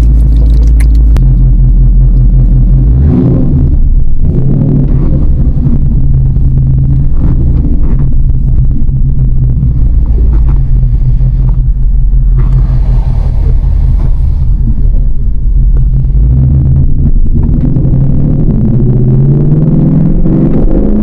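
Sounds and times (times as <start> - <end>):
car engine running: 0.0 - 21.0
rush of higher noise: 0.0 - 21.0.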